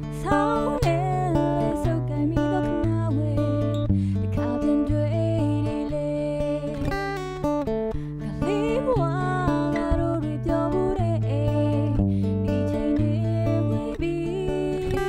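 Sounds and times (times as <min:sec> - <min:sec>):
person singing: 0:00.0 - 0:07.0, 0:08.2 - 0:15.0
guitar: 0:00.0 - 0:15.0.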